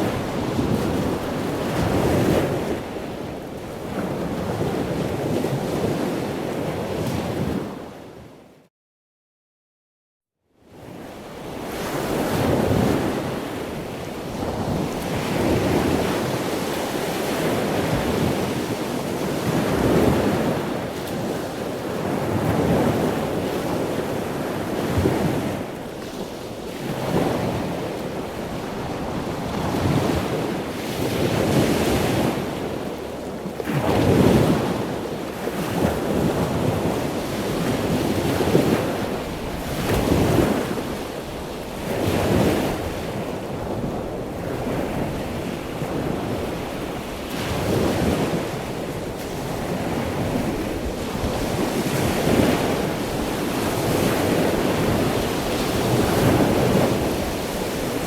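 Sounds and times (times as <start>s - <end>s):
ocean waves breaking: 11.5s - 58.0s.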